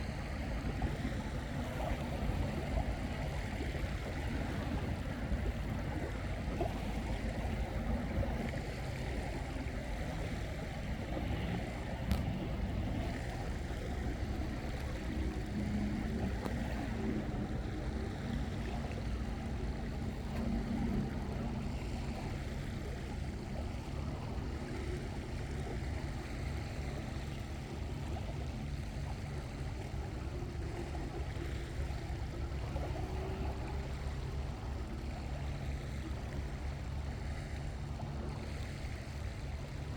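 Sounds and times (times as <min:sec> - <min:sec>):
waves: 0:00.0 - 0:39.9
wind rumble on microphone: 0:00.0 - 0:39.9.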